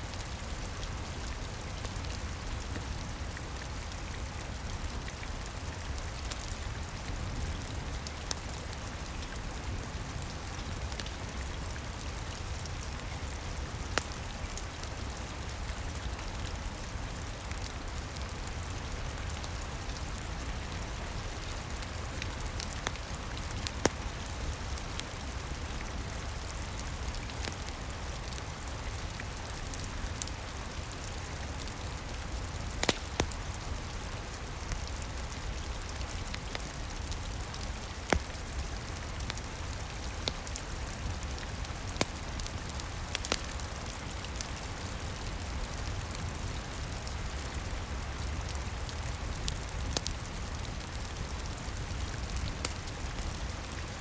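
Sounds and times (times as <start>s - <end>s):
steady rain falling: 0.0s - 54.0s
wood fire crackling: 0.1s - 54.0s.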